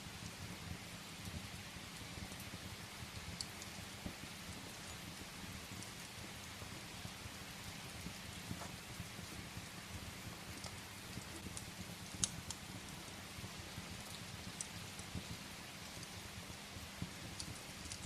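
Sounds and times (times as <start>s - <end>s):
rain hiss: 0.0s - 18.0s
firewood crackling and popping: 0.1s - 18.0s.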